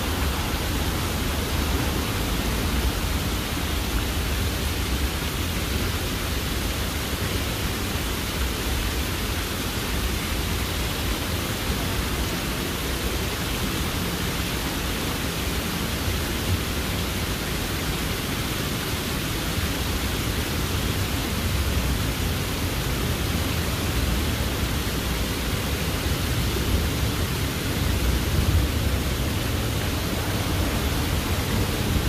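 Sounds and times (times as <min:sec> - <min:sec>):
water cascading down stone wall: 0:00.0 - 0:32.0.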